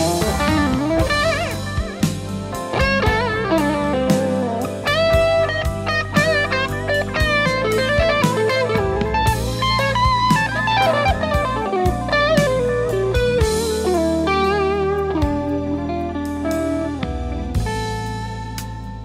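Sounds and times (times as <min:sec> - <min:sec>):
electric guitar lead line: 0:00.0 - 0:19.0.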